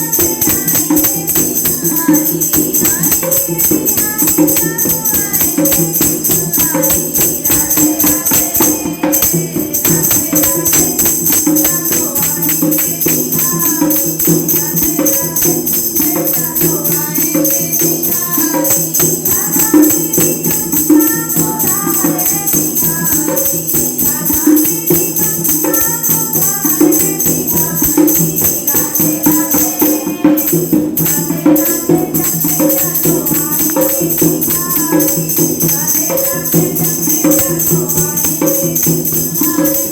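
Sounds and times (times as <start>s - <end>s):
jingling percussion beat: 0.0s - 39.9s
women singing devotional song: 0.0s - 39.9s.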